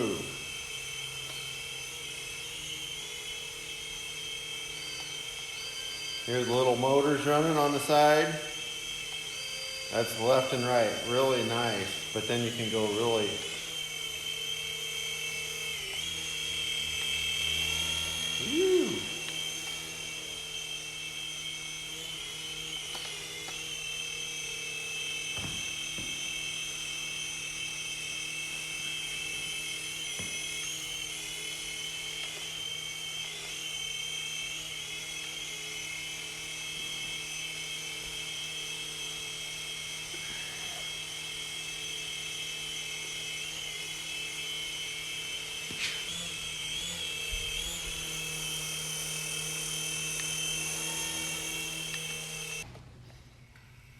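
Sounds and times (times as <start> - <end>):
toy helicopter motor whine: 0.0 - 53.9.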